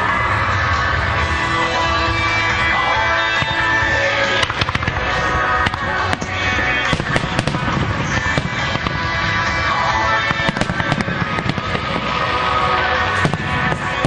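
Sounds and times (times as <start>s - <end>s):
music playing: 0.0s - 14.0s
fireworks bursting and crackling: 1.9s - 14.0s.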